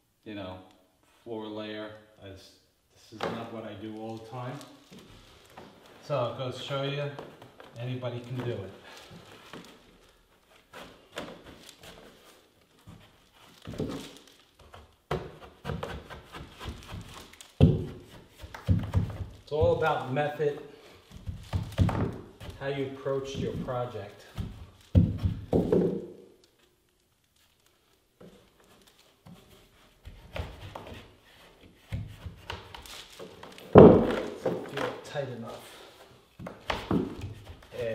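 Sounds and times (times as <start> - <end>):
soft knocks and rustles: 3.1 - 20.2, 20.9 - 26.7, 27.4 - 37.9.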